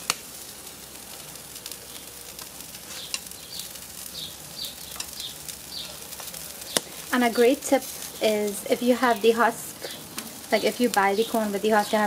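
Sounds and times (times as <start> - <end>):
butter sizzling on grill: 0.0 - 12.0
crackles and pops: 0.0 - 12.0.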